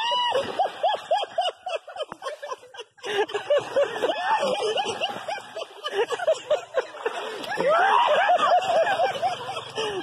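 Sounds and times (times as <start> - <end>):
person laughing hard: 0.0 - 10.0.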